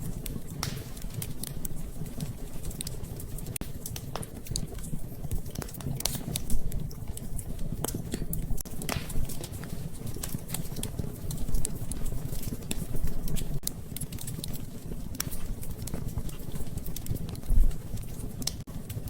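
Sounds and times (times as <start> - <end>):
rain pattering: 0.0 - 19.0
wood fire crackling: 0.0 - 19.0.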